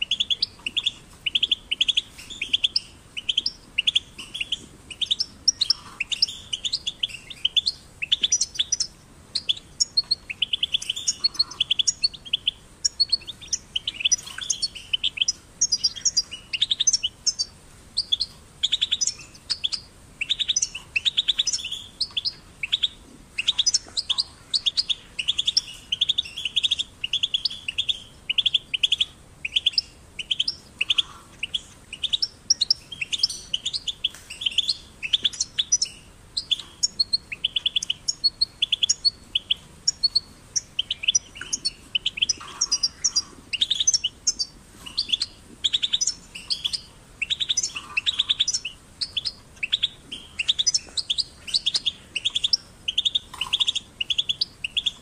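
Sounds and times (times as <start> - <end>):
goldfinch singing: 0.0 - 55.0.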